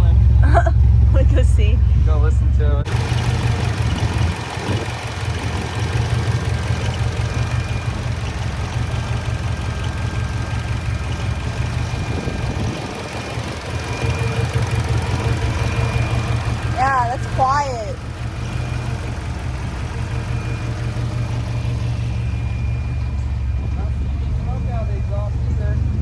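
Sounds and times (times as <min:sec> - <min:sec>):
car engine idling low: 0:00.0 - 0:26.0.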